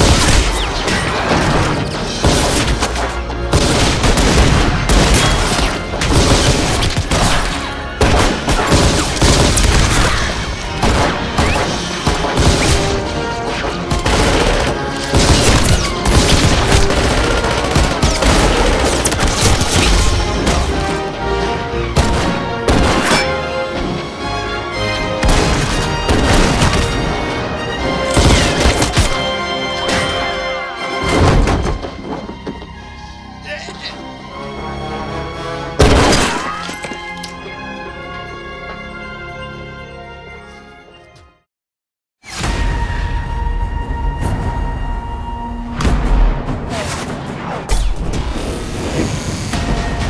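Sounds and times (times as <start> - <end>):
dramatic action music: 0.0 - 40.4, 42.2 - 50.0.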